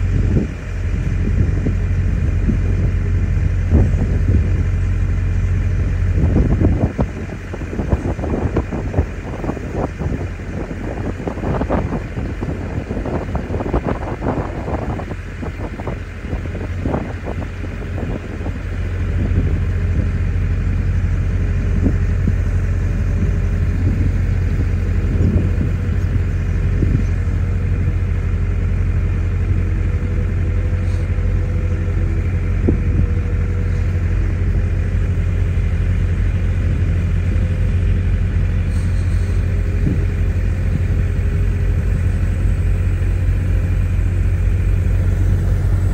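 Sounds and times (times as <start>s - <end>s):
deep engine drone: 0.0s - 45.9s
wind buffeting microphone: 0.0s - 45.9s.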